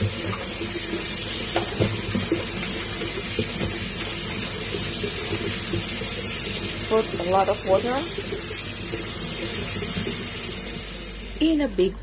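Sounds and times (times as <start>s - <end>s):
tap running into basin: 0.0s - 11.4s.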